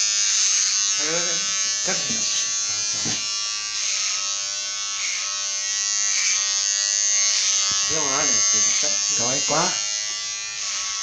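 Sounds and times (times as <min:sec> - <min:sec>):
electric clippers buzzing: 0:00.0 - 0:11.0.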